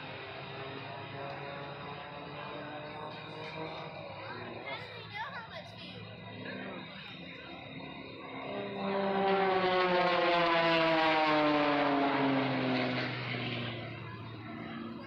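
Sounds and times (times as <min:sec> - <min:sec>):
propeller airplane engine drone: 0:00.0 - 0:15.0.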